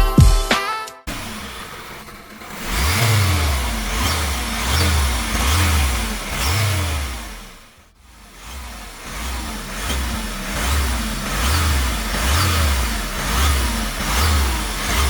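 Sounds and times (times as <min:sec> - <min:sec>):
diesel engine revving: 0:01.1 - 0:15.0.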